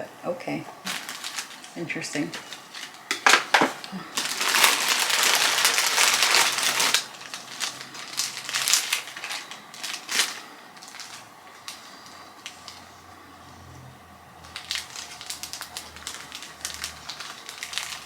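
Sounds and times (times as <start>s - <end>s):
packaging crinkling: 0.8s - 12.9s, 14.4s - 18.0s.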